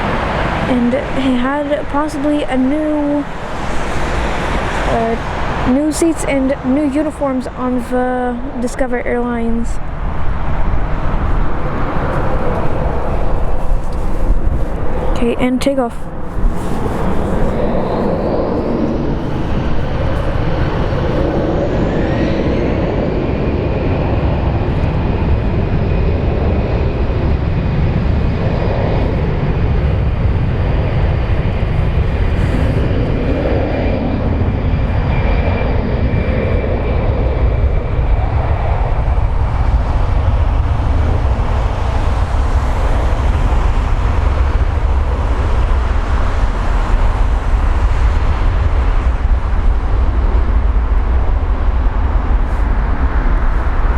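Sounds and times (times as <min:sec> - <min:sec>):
high turbine whine: 0:00.0 - 0:53.9
jet engine rumble: 0:00.0 - 0:53.9.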